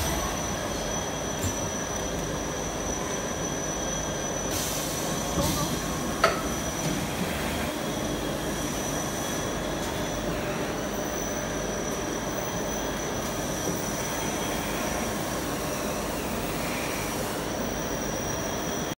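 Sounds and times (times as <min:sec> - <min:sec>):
printing machine humming and whining: 0:00.0 - 0:18.9.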